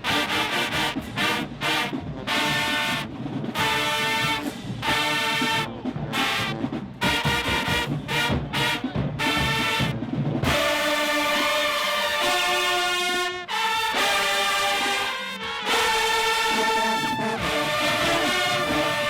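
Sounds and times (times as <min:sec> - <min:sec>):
brass chords: 0:00.0 - 0:19.0
drums: 0:00.0 - 0:19.0
marching band playing: 0:00.0 - 0:19.0.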